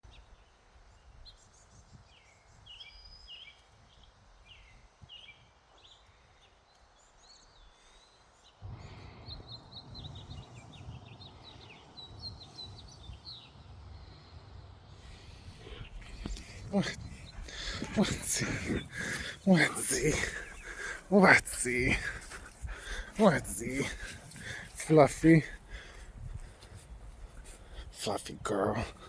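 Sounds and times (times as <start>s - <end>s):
songbirds chirping: 0.1s - 29.0s.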